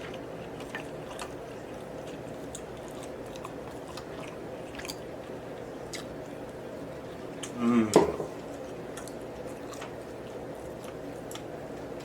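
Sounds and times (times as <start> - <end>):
low background hum: 0.0 - 12.0
person chewing: 0.0 - 12.0.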